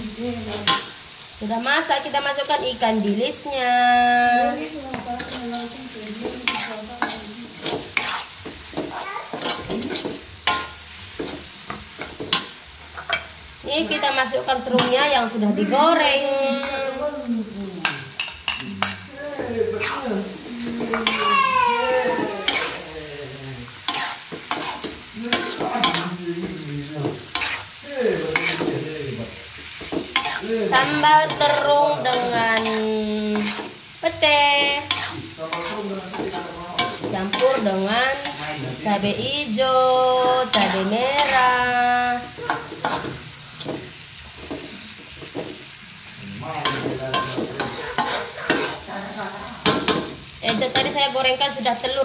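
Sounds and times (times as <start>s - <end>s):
frying oil hissing: 0.0s - 52.0s
metal spatula scraping wok: 4.2s - 17.0s, 17.8s - 21.4s, 22.0s - 45.7s, 46.4s - 51.4s.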